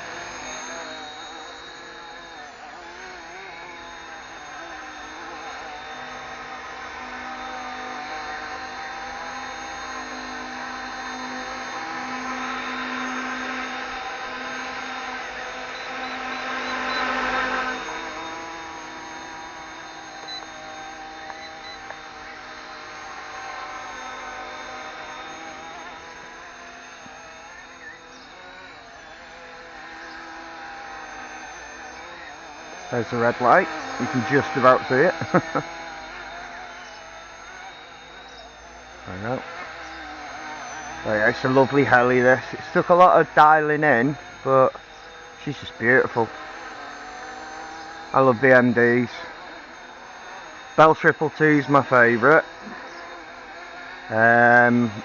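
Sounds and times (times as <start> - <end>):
model helicopter rotor whine: 0.0 - 55.0.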